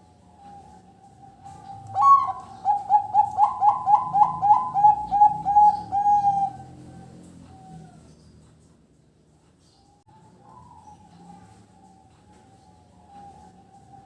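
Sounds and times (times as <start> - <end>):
dove cooing: 0.0 - 8.1, 10.1 - 14.0.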